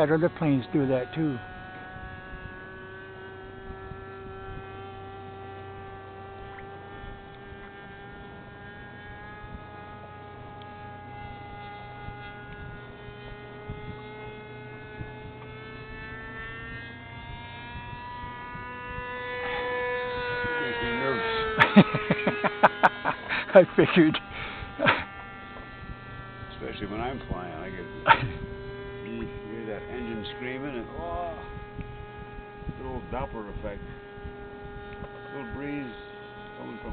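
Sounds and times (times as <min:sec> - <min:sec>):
model plane engine whine: 0:00.0 - 0:36.9.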